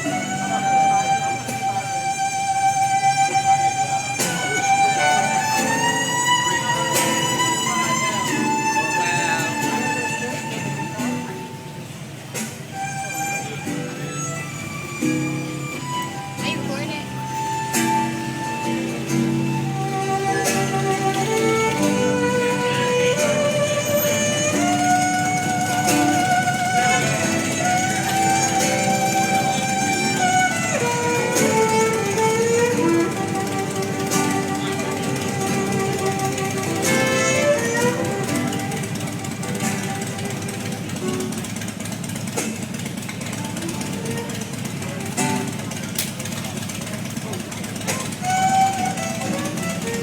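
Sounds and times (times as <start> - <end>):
violin playing slow melody: 0.0 - 42.4, 47.7 - 50.0
plucked guitar: 0.0 - 50.0.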